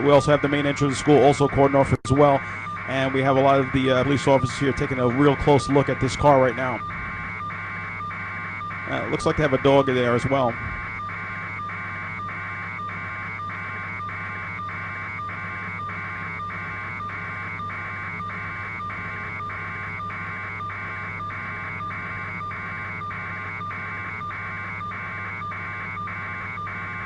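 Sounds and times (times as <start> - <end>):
pulsing whine: 0.0 - 27.0
helicopter cabin hum: 2.1 - 27.0.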